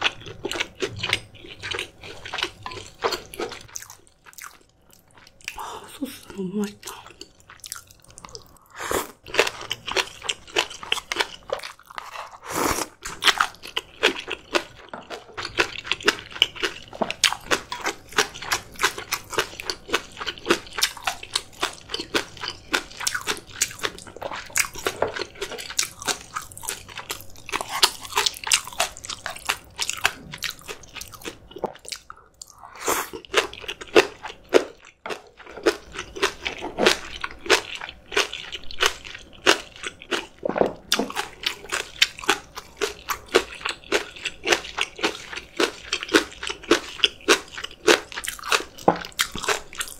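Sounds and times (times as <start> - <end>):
person chewing with crunches: 0.0 - 49.9.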